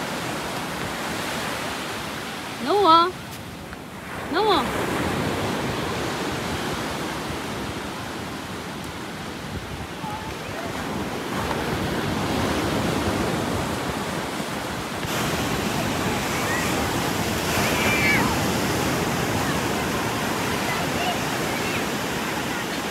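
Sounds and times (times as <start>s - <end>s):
ocean surf: 0.0s - 22.9s
wind buffeting microphone: 4.0s - 22.9s.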